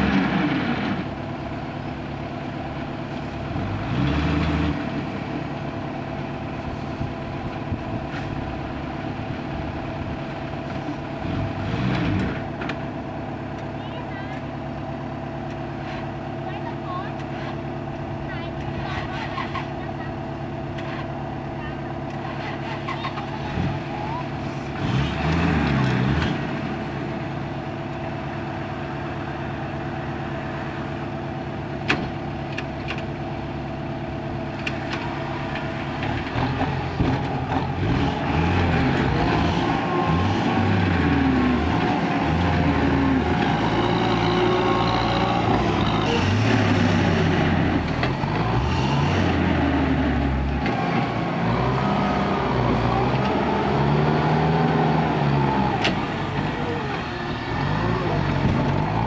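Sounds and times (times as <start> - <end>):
diesel truck engine revving: 0.0 - 13.8, 17.2 - 59.0.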